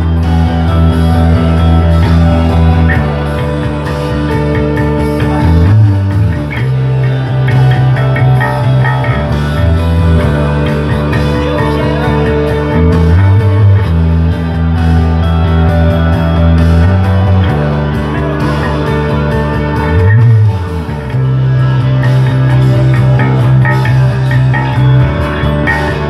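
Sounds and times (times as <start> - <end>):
electric bass played fingerstyle: 0.0 - 26.0
recorded rock band track: 0.0 - 26.0.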